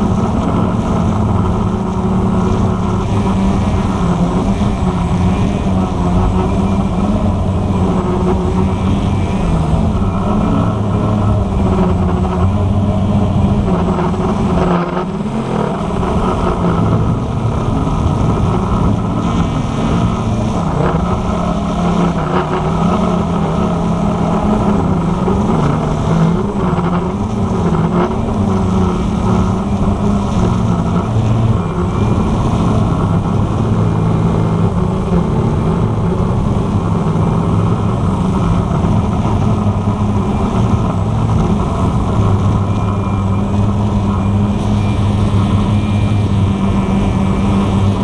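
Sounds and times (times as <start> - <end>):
quadcopter propellers buzzing: 0.0 - 48.0.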